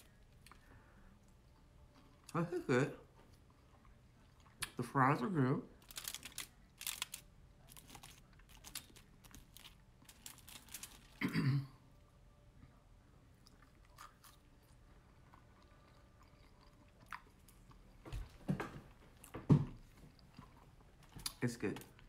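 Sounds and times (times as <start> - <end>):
chewing crunchy fried food: 0.0 - 11.2, 13.3 - 18.4, 19.1 - 22.0.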